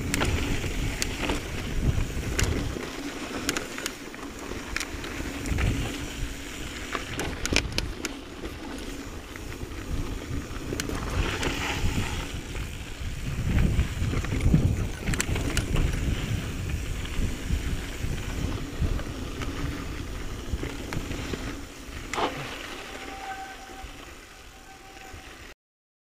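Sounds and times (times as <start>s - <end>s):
wind buffeting microphone: 0.0s - 3.4s, 4.6s - 25.5s
bike clicks and rattles: 0.0s - 23.0s
mountain bike rolling on dirt: 0.0s - 25.5s.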